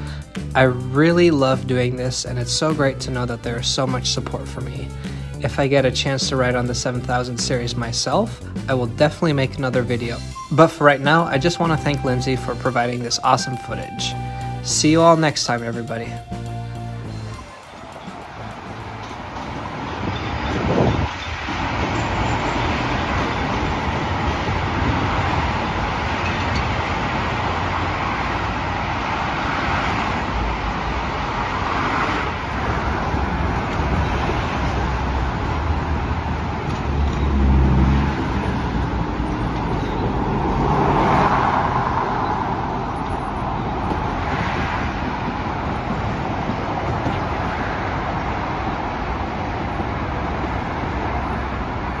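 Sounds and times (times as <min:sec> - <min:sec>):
expressway traffic passing: 0:00.0 - 0:52.0.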